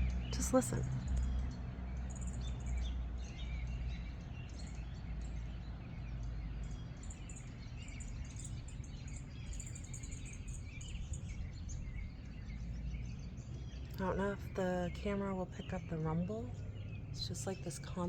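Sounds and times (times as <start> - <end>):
constant low rumble: 0.0 - 18.0
small birds chirping: 0.0 - 18.0.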